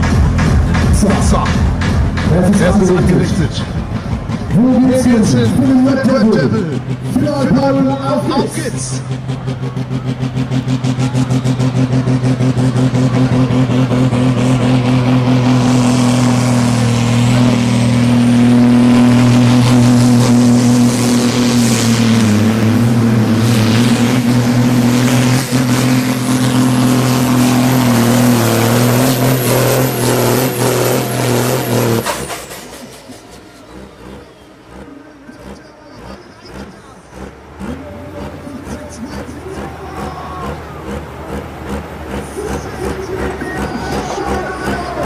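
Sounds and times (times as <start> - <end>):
high engine whine: 0.0 - 45.0
tractor engine at full throttle: 0.0 - 45.0.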